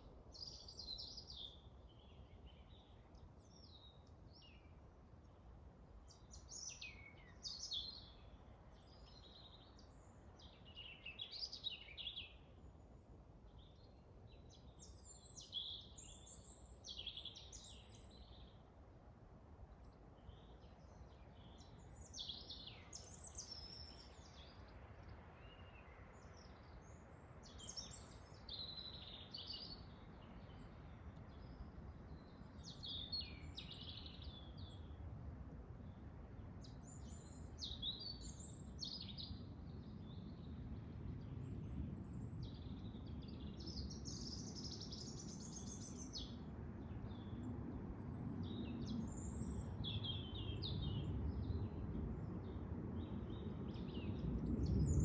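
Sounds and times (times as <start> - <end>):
songbirds singing and chirping: 0.2 - 4.8, 6.0 - 12.5, 13.4 - 18.7, 19.9 - 35.0, 35.8 - 55.0.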